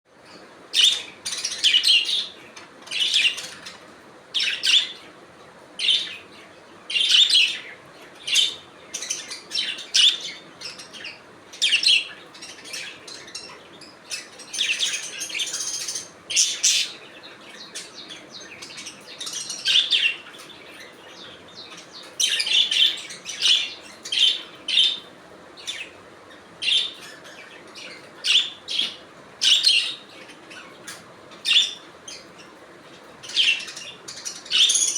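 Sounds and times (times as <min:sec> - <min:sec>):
budgies chirping: 0:00.2 - 0:05.1, 0:05.8 - 0:34.9.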